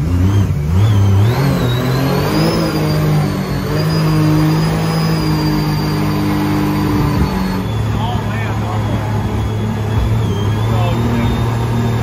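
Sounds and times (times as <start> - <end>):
boat engine running: 2.4 - 12.0.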